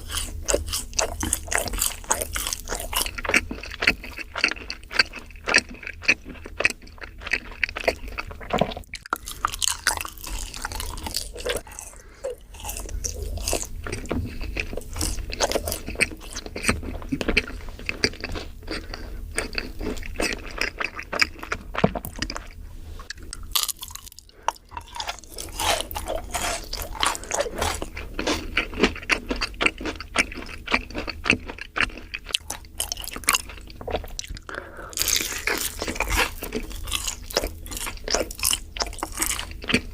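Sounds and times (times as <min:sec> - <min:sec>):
cookie crunching: 0:00.0 - 0:39.9.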